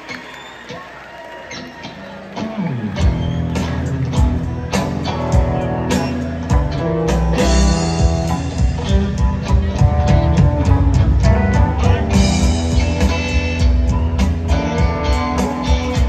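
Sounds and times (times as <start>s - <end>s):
live rock band playing: 1.5s - 16.0s.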